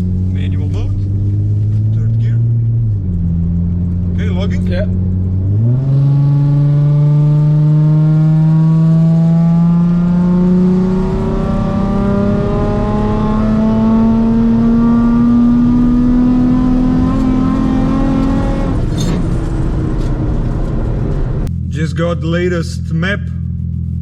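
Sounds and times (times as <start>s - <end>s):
car engine revving at full throttle: 0.0s - 21.6s.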